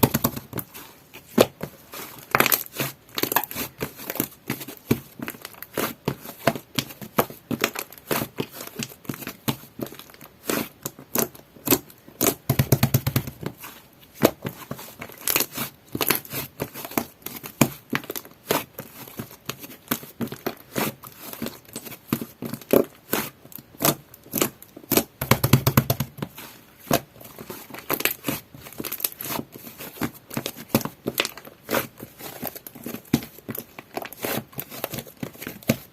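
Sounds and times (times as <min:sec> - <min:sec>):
slime clicking and crackling: 0:00.0 - 0:35.9.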